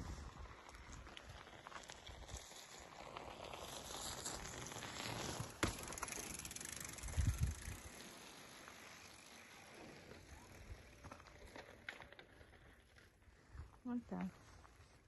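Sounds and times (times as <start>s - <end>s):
bike tyres on gravel: 0.0s - 15.0s.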